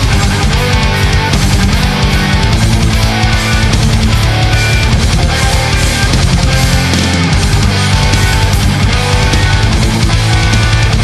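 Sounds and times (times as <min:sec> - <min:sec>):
distorted electric guitars: 0:00.0 - 0:11.0
fast dense drumming: 0:00.0 - 0:11.0.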